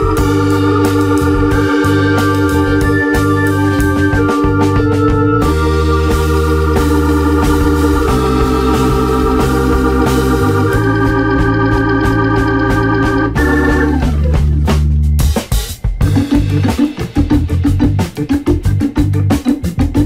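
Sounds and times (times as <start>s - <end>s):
organ music over a beat: 0.0s - 20.0s.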